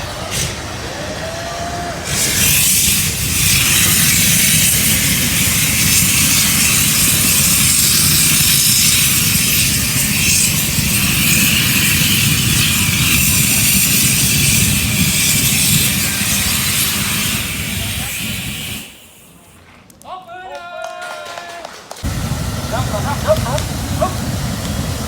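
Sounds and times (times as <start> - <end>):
gas hissing from cylinder: 0.0 - 19.6, 22.0 - 25.0.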